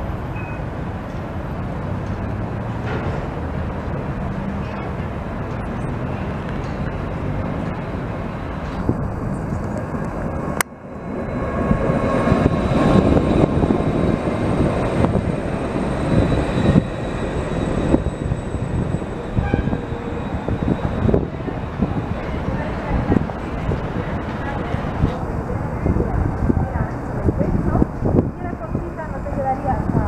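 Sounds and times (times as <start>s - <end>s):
high tram whine: 0.0s - 30.0s
steel wheels rumbling on rail: 0.0s - 30.0s
street sound: 0.0s - 30.0s.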